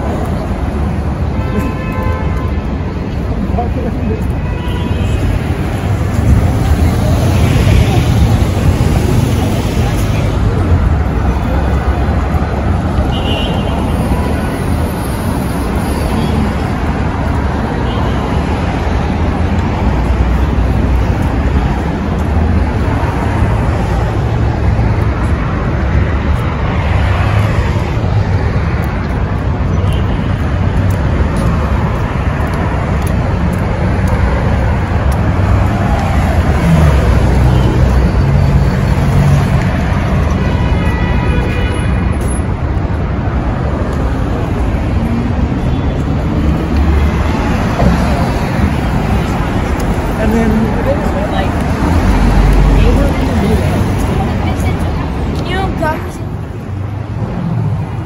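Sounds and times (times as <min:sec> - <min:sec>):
car and bus engines passing: 0:00.0 - 0:01.8, 0:05.0 - 0:58.0.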